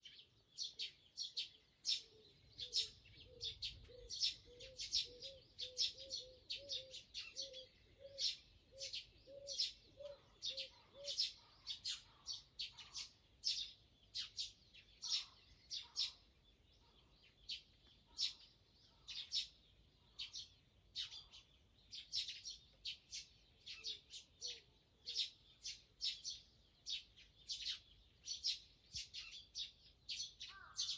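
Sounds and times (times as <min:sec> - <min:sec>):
bird chirping: 0:00.0 - 0:30.9.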